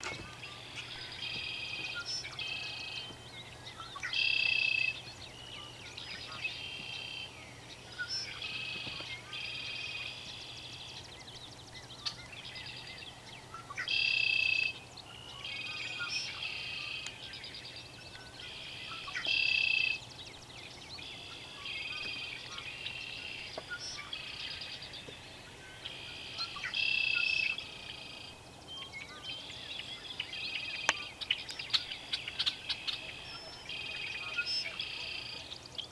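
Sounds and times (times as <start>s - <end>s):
loud bird song phrase: 0.0s - 35.9s
songbirds singing: 0.0s - 35.9s.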